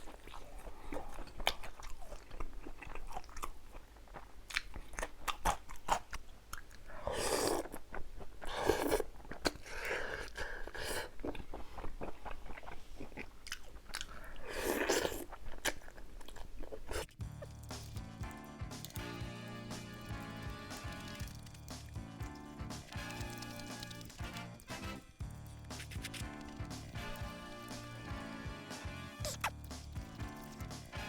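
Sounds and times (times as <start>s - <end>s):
close chewing and crunching: 0.0s - 31.0s.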